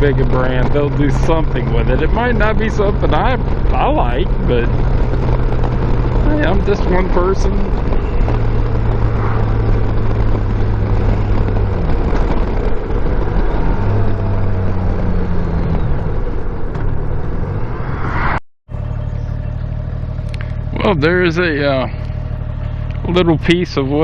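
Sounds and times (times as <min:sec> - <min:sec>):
motorcycle engine running: 0:00.0 - 0:18.1, 0:18.7 - 0:24.0
wind and road rush: 0:00.0 - 0:24.0.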